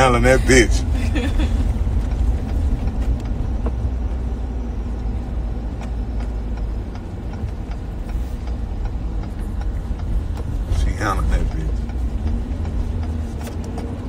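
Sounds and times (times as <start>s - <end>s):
road noise: 0.0s - 14.0s
truck engine rumbling: 0.0s - 14.0s.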